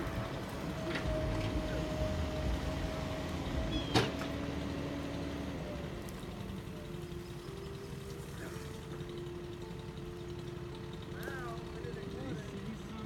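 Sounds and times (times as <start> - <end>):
machine engine rumbling: 0.0 - 13.0.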